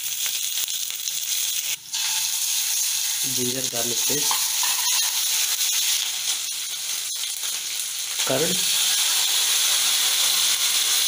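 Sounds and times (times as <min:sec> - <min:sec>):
liquid poured into hot pan: 0:00.0 - 0:10.6
vegetables sizzling in hot oil: 0:00.0 - 0:11.0.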